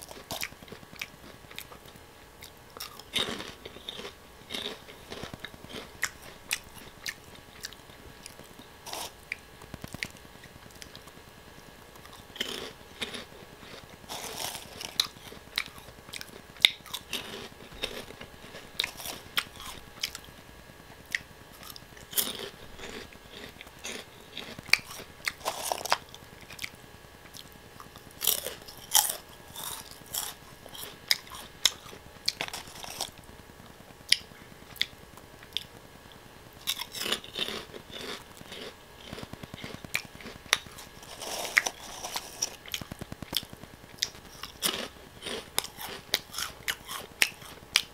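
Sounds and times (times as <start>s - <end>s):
soft chewing: 0.0s - 20.4s, 21.0s - 33.3s, 36.6s - 47.9s
potato sticks crunching: 0.1s - 11.1s, 12.0s - 20.3s, 21.1s - 26.7s, 27.3s - 33.3s, 36.6s - 47.9s.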